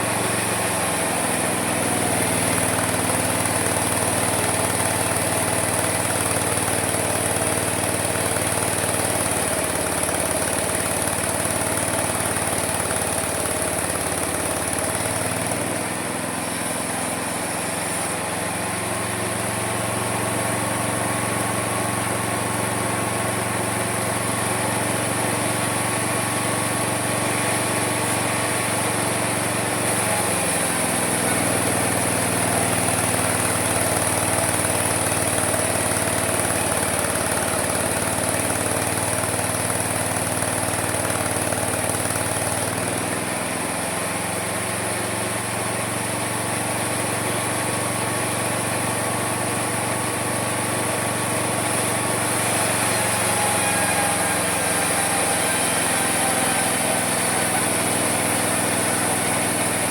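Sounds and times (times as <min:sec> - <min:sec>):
sawmill motor and blade whining: 0:00.0 - 0:59.9.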